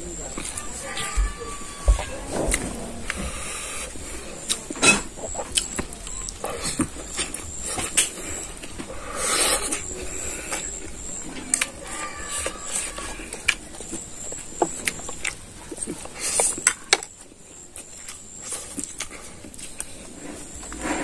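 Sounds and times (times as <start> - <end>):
chewing raw leaves: 0.0 - 21.0.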